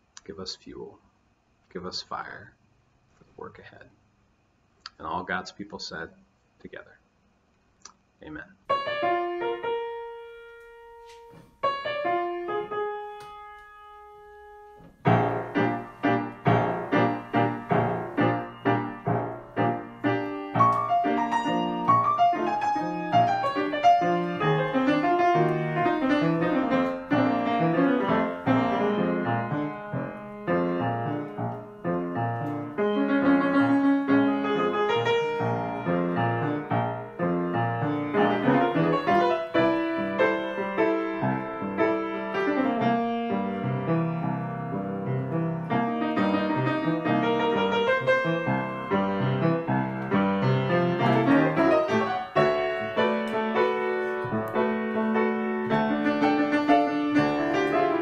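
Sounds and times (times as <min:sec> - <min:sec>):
acoustic piano playing: 0:08.6 - 0:58.0.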